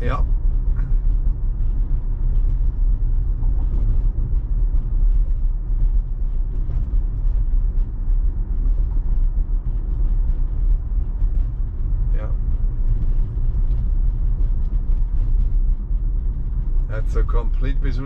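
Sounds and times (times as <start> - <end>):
tyre and road noise in car: 0.0 - 18.0.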